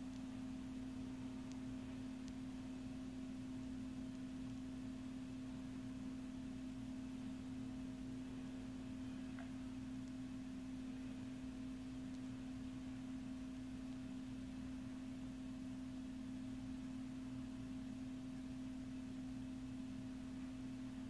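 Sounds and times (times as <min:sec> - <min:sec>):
soft hiss: 0:00.0 - 0:21.0
steady low hum: 0:00.0 - 0:21.0.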